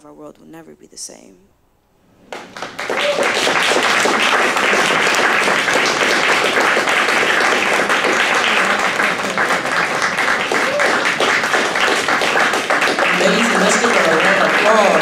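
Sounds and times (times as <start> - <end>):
audience applauding: 2.3 - 15.0.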